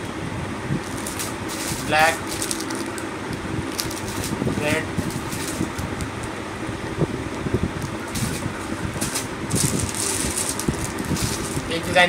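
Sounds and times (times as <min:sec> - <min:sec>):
steady background noise: 0:00.0 - 0:12.0
plastic packets rustling: 0:00.8 - 0:06.3, 0:07.3 - 0:12.0.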